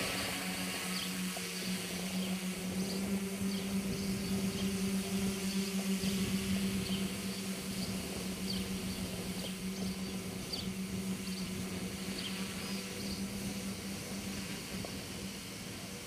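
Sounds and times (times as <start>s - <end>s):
drone motors and propellers humming: 0.0s - 16.0s.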